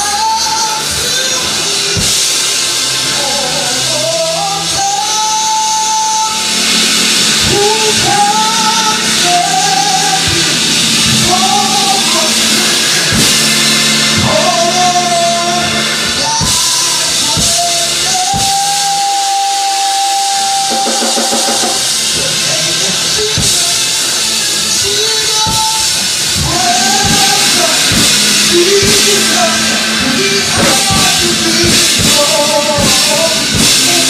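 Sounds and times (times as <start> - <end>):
band with drums: 0.0 - 34.0
person singing: 0.0 - 34.0.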